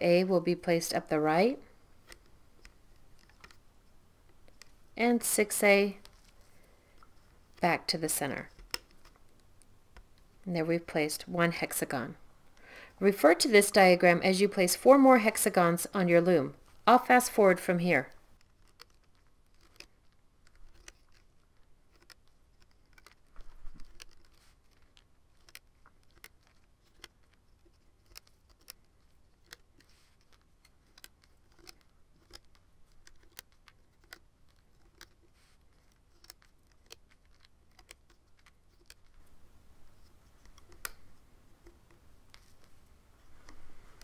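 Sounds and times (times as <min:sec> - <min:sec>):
rubber bands clicking on plastic pins: 0:01.7 - 0:10.4, 0:16.8 - 0:44.0.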